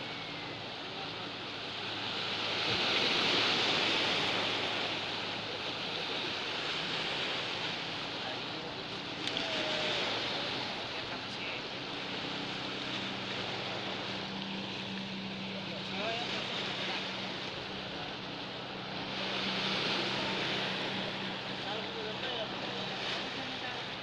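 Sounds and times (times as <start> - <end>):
small waves washing ashore: 0.0 - 24.0.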